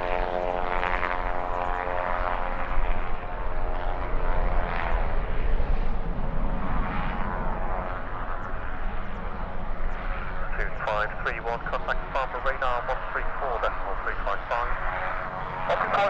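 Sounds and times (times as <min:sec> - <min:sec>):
jet engines roaring and whining: 0:00.0 - 0:16.0.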